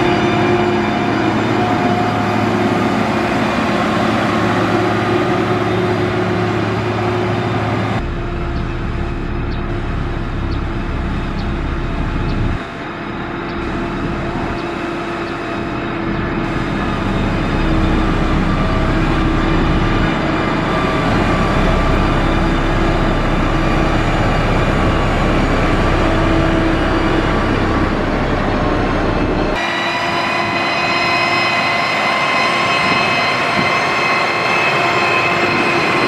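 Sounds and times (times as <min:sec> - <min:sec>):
construction machine engine rumbling: 0:00.0 - 0:34.2.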